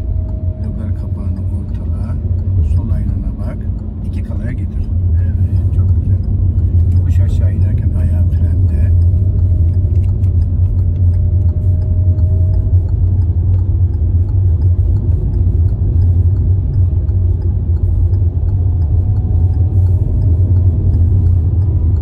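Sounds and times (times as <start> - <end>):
engine and tyre road noise: 0.0 - 22.0.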